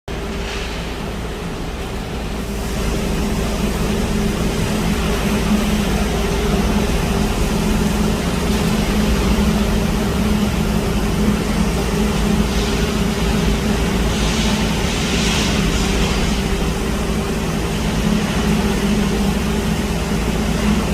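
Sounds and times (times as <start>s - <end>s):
pump truck diesel engine drone: 0.1s - 20.9s.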